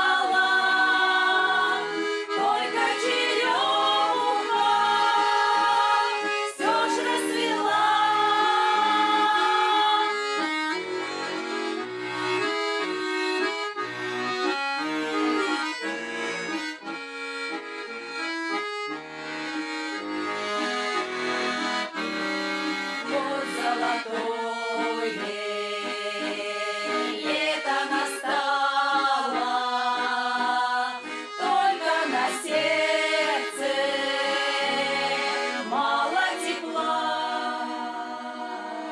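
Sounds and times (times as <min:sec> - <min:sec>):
folk ensemble with accordion: 0:00.0 - 0:38.9.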